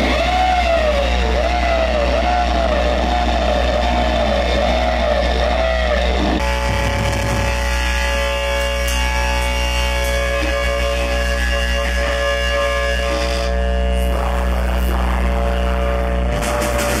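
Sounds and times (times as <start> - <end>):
distorted metal band playing: 0.0 - 17.0.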